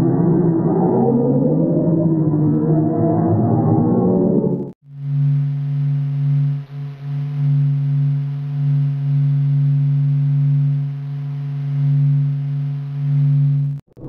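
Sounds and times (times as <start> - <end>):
low electronic hum: 0.0 - 14.0.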